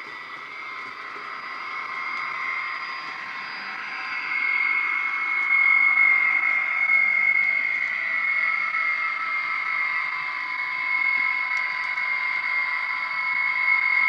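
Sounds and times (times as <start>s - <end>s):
electric locomotive whine: 0.0s - 14.0s.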